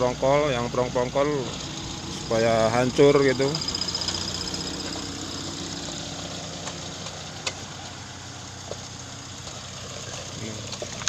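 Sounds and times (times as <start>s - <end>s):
heavy engine idling: 0.0s - 11.0s.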